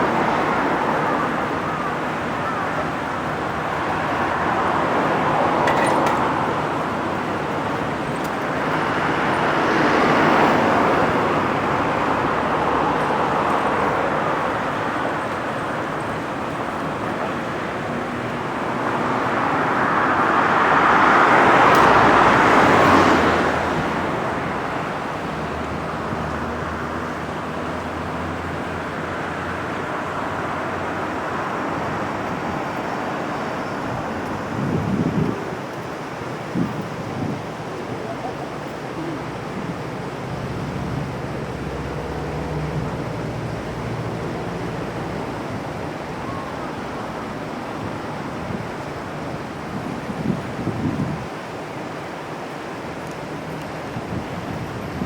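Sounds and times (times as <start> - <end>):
passing cars: 0.0 - 55.0.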